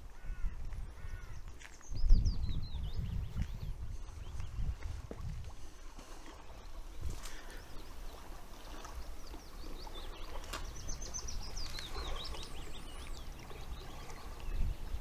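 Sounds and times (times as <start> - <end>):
songbird twittering: 0.2 - 4.8, 6.4 - 15.0.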